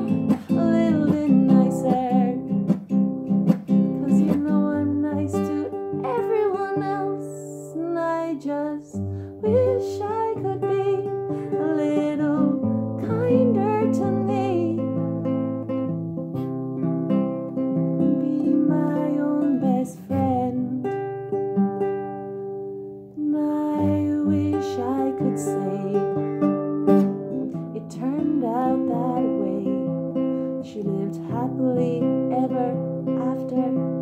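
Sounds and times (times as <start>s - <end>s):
woman singing: 0.0s - 15.2s, 17.8s - 21.3s, 23.2s - 34.0s
acoustic guitar strumming: 0.0s - 23.1s, 23.7s - 34.0s.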